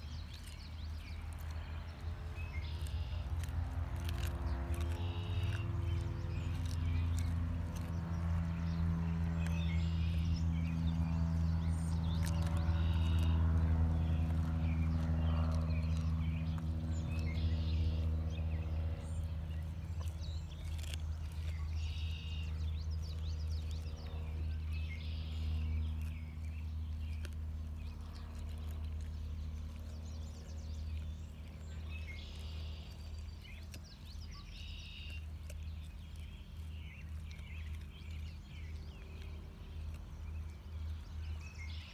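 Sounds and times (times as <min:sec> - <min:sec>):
teeth clicking on bone: 0:00.0 - 0:18.4, 0:19.6 - 0:41.5
dog chewing and crunching: 0:00.0 - 0:41.9
steady low hum: 0:00.0 - 0:41.9.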